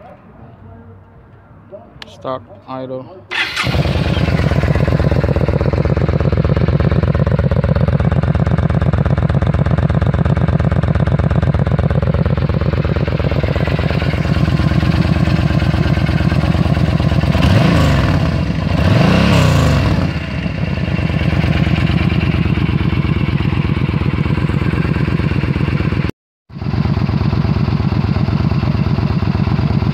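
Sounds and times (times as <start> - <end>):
motorcycle engine idling and revving: 3.3 - 29.9.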